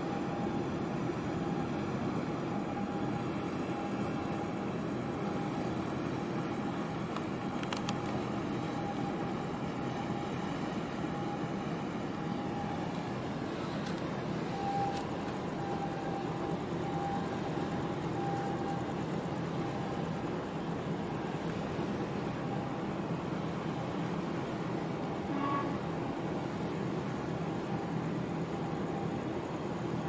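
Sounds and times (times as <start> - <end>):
faint steady whine: 0.0 - 30.0
ship engine rumble: 0.0 - 30.0.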